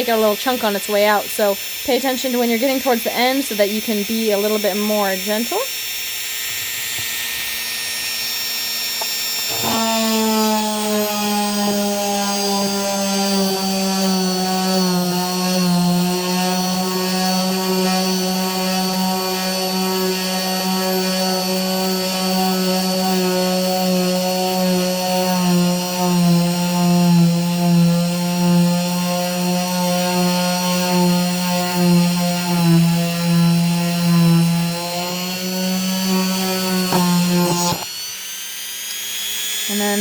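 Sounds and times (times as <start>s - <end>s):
rotary tool grinding crystal: 0.0s - 40.0s.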